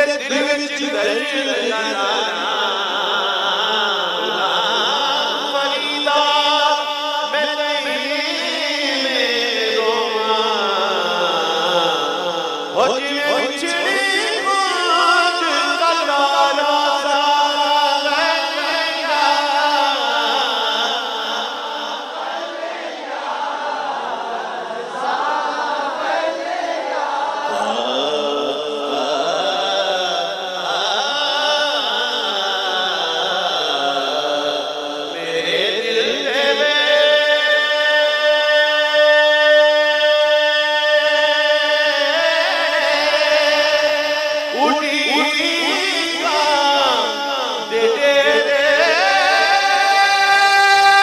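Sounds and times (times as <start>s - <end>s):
man singing through loudspeakers: 0.0s - 23.8s, 26.9s - 51.0s.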